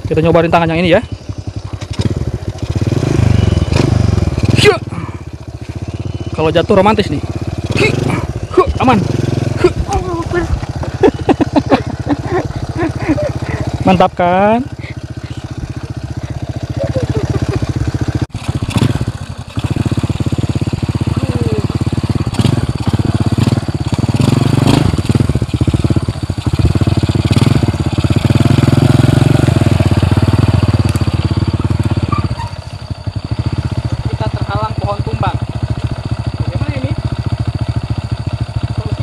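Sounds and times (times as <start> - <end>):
small motorcycle engine under load: 0.0 - 39.0.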